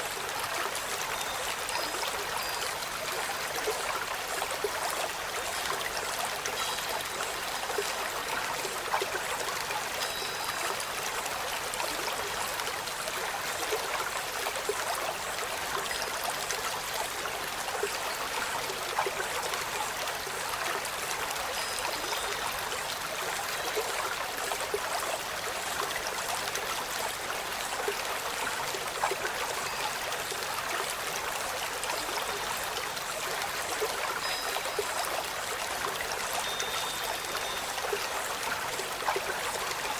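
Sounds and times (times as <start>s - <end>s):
steady rush like running water: 0.0s - 39.9s.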